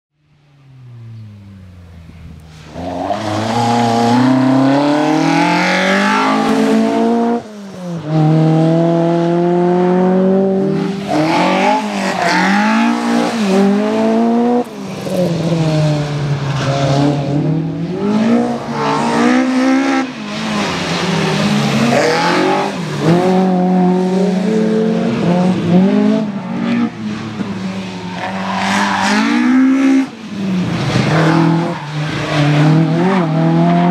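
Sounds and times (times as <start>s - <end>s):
rally car engine revving: 2.5s - 33.9s.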